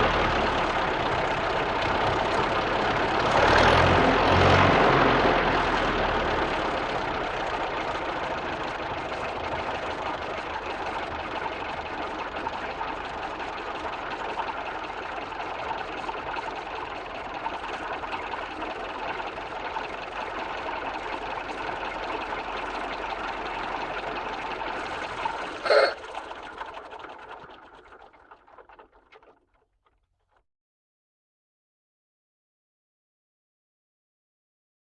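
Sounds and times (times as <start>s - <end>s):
car engine idling: 0.0s - 29.5s.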